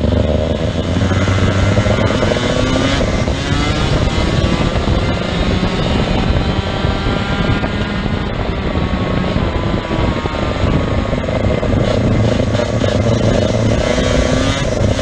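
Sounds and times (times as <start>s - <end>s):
kart engine revving high: 0.0s - 15.0s.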